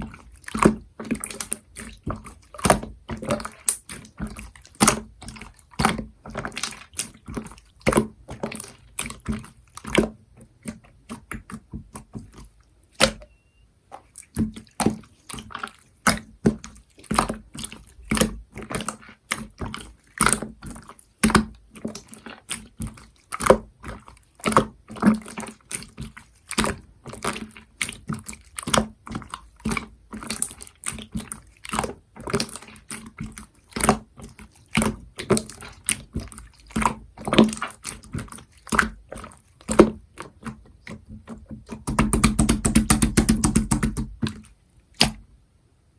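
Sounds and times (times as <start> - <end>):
slime squishing by hand: 0.0 - 45.4.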